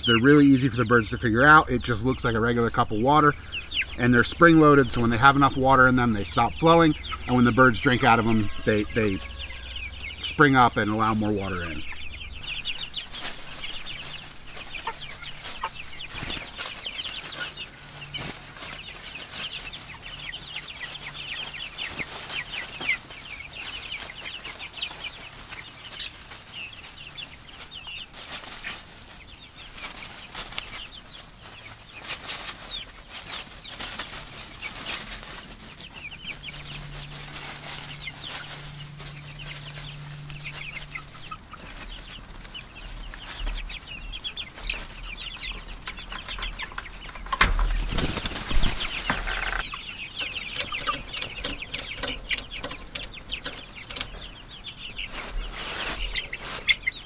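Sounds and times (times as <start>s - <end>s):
birds scratching in dry leaves: 0.0s - 57.0s
chicks peeping: 0.0s - 57.0s.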